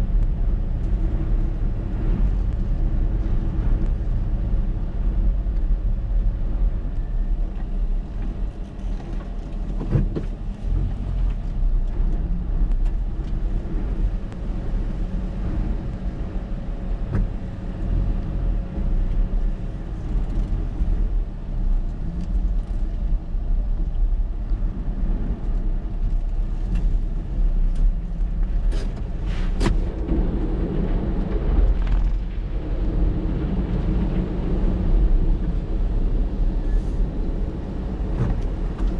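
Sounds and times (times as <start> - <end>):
heavy surf rumble: 0.0 - 38.9
wind buffeting microphone: 0.0 - 38.9.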